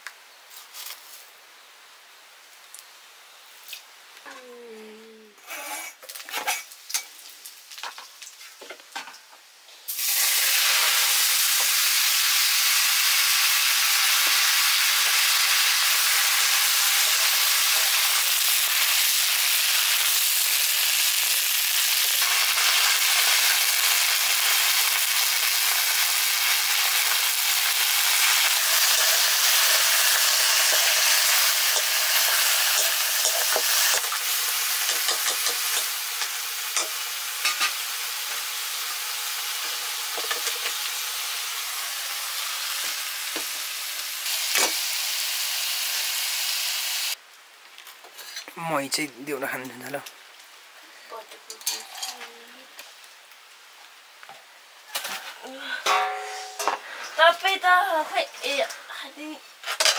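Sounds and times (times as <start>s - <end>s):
food sizzling in hot oil: 5.5s - 9.2s, 9.9s - 47.2s, 48.2s - 58.7s, 59.4s - 59.9s.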